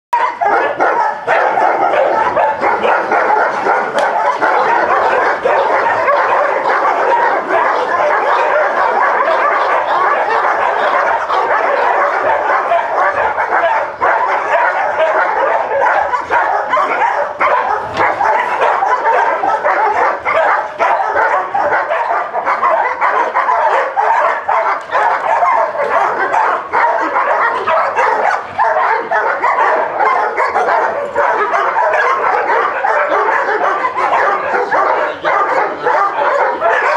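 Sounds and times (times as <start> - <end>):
many dogs barking: 0.1 - 36.9.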